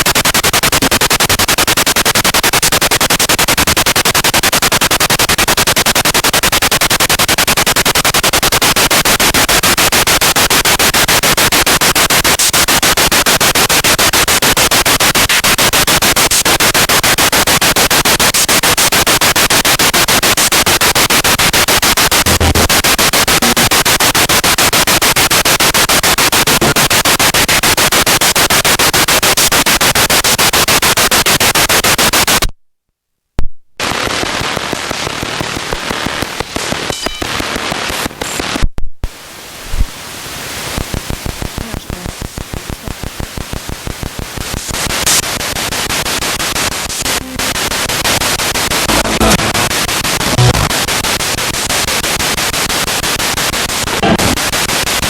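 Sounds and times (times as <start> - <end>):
pulsing radio static: 0.0 - 32.5, 33.8 - 39.2, 40.6 - 55.0.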